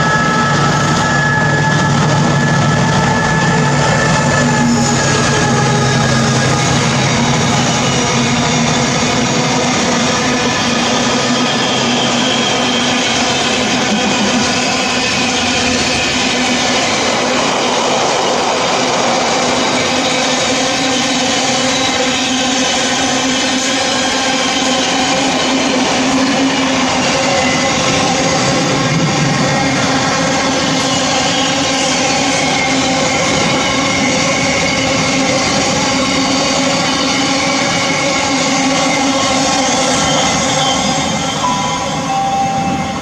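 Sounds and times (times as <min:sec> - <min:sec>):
freight train rolling: 0:00.0 - 0:43.0.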